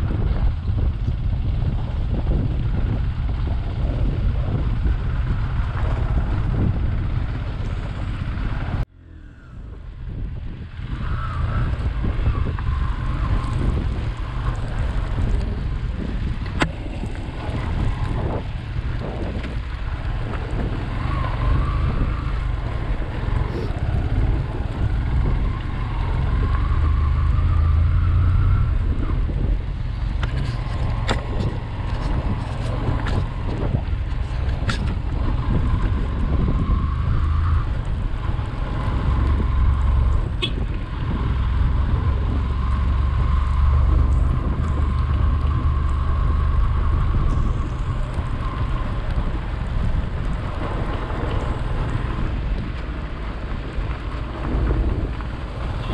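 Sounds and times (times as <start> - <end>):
motorcycle engine running: 0.0 - 55.9
wind on microphone: 0.0 - 55.9.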